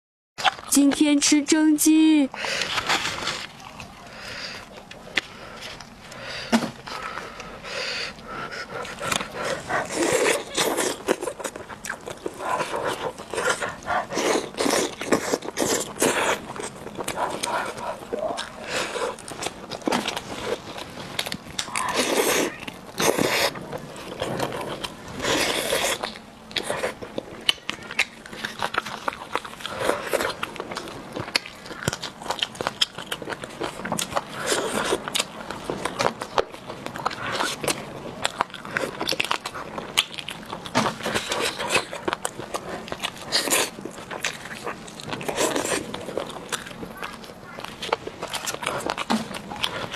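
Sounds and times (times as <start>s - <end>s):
chewing with wet lip smacks: 3.5s - 49.9s.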